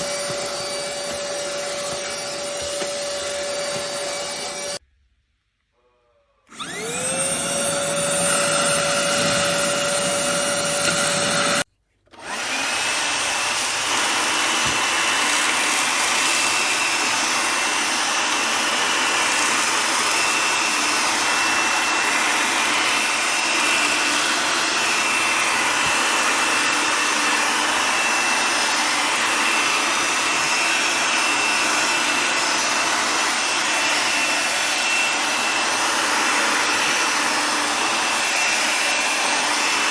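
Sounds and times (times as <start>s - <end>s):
handheld vacuum cleaner whining: 0.0s - 4.8s, 6.4s - 39.9s.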